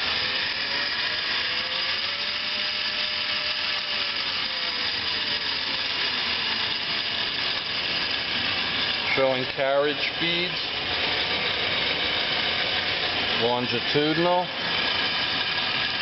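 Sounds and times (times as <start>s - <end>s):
lathe running with whine: 0.0s - 16.0s.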